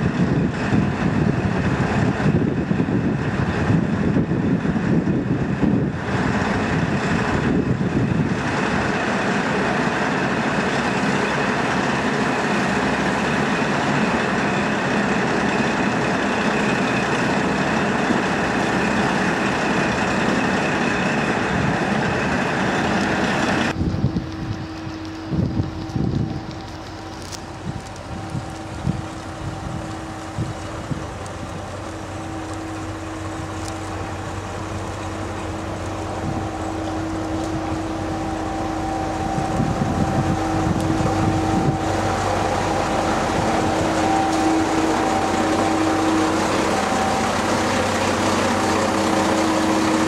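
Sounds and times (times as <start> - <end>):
wind noise: 0.0 - 11.6, 16.9 - 50.0
diesel railcar running: 0.0 - 50.0.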